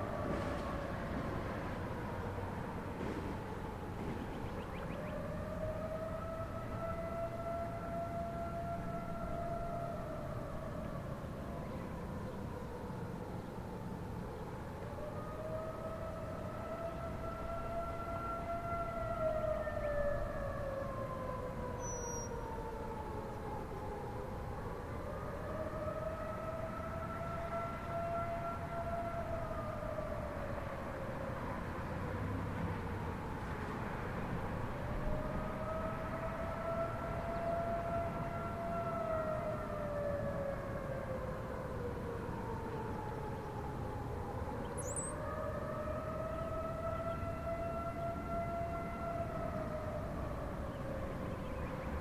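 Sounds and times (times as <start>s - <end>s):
outdoor warning siren wailing: 0.0s - 52.0s.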